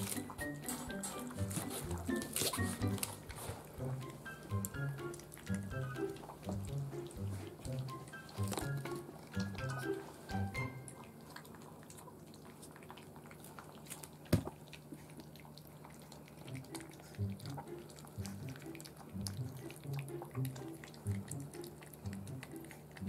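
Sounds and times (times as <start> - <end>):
puppy crunching kibble: 0.0 - 23.0.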